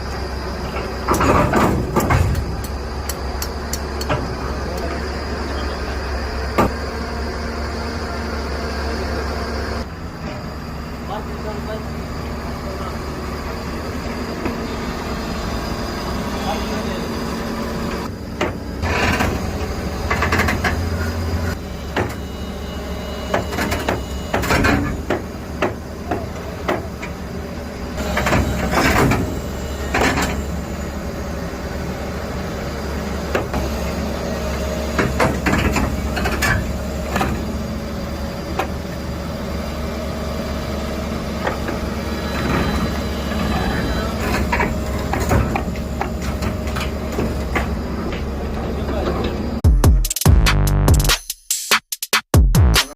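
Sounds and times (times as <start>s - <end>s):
excavator engine running: 0.0s - 49.7s.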